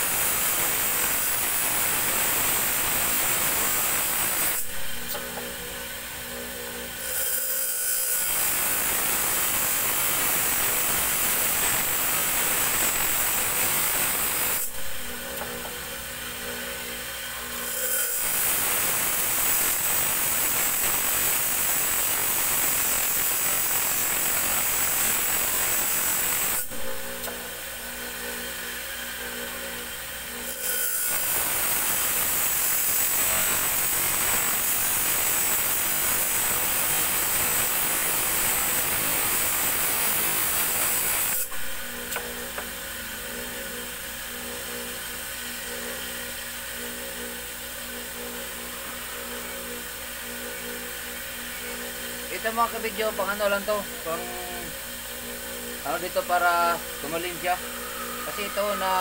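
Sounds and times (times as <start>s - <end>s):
blade grinding on grinding wheel: 0.0s - 59.0s
grinding wheel humming: 0.0s - 59.0s.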